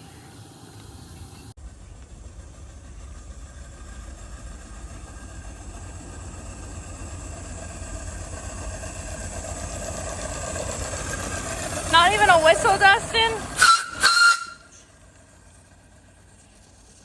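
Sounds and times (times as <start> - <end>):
model locomotive engine running: 0.0 - 17.0.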